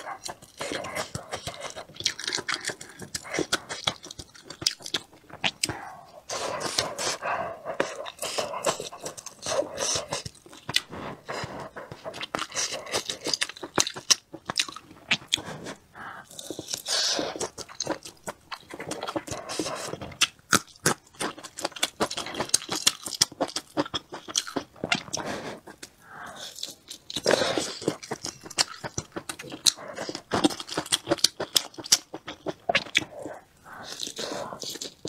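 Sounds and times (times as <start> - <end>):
chewing with wet mouth clicks: 0.0 - 35.0.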